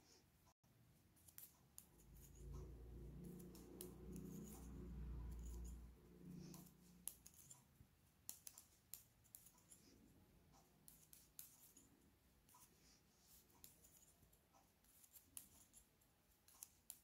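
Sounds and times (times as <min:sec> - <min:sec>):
knitting needles clicking: 0:01.2 - 0:09.9, 0:10.5 - 0:11.9, 0:13.3 - 0:17.0.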